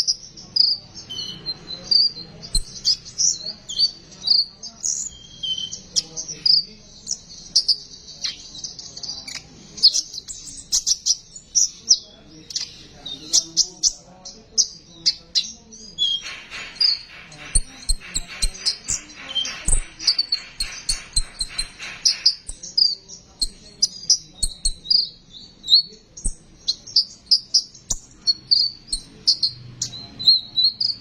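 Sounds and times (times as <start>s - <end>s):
bird chirping and twittering: 0.0s - 31.0s.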